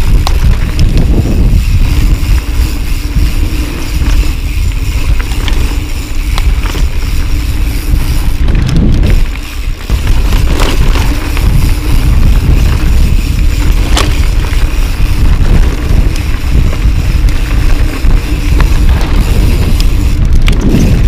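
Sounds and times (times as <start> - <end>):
bike clicks and rattles: 0.0 - 21.0
mountain bike rolling on dirt: 0.0 - 21.0
wind buffeting microphone: 0.0 - 21.0.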